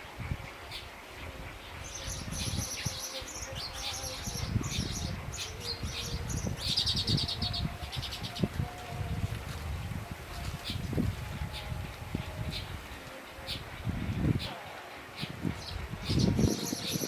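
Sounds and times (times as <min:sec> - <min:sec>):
songbird chirping and trilling: 0:00.2 - 0:17.0.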